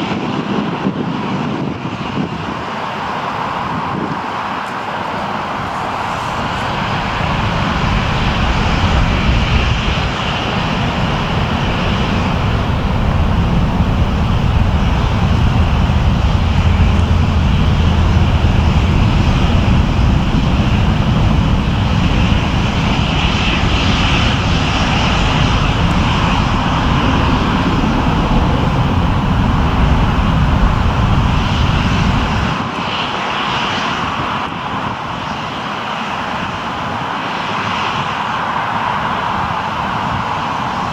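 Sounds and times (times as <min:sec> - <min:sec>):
airliner engines rumbling: 0:00.0 - 0:40.9.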